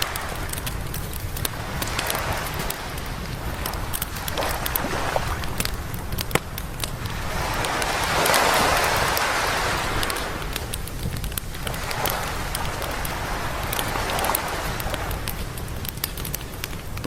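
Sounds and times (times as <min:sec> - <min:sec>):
sea wave breaking: 0:00.0 - 0:06.4, 0:07.0 - 0:10.8, 0:11.6 - 0:15.4
campfire crackling and popping: 0:00.0 - 0:17.0.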